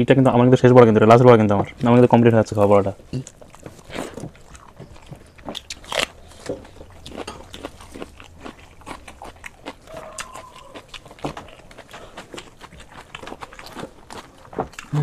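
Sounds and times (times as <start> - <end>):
chewing and crunching: 1.8 - 15.0.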